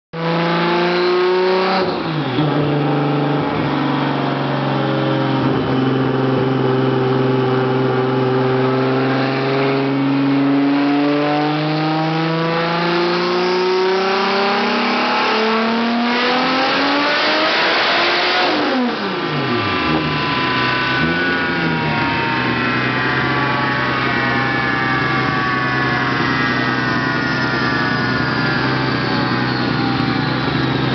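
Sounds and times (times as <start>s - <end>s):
car engine at full throttle: 0.1s - 30.9s.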